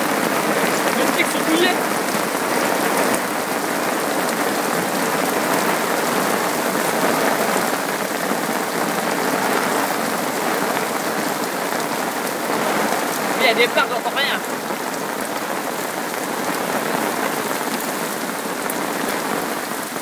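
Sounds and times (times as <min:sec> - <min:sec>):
heavy rain pouring on water: 0:00.0 - 0:20.0.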